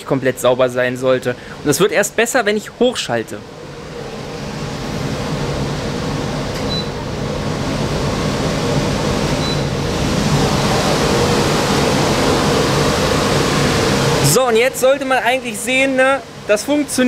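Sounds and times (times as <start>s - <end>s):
air filtration fan running: 0.0s - 17.0s.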